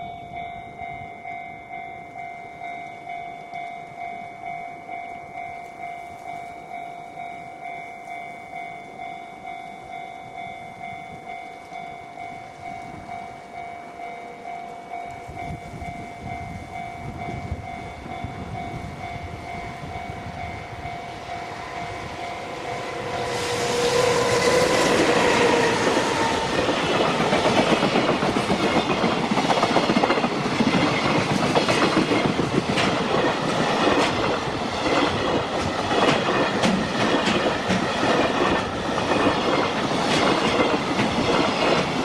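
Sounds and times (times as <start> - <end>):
freight train rumble: 0.0 - 42.0
level crossing warning bell: 0.0 - 42.0.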